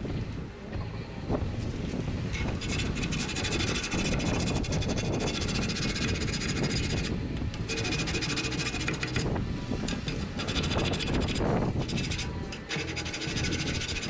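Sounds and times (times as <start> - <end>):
abrasive tool scraping steel: 2.3 - 14.0.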